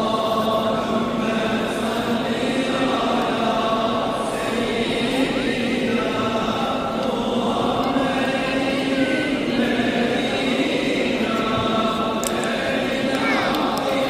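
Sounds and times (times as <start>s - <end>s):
many voices chanting: 0.0s - 14.0s.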